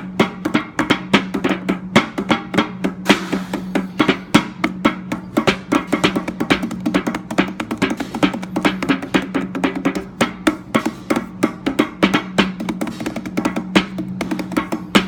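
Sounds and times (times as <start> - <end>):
fast hand drum strikes: 0.0 - 15.0.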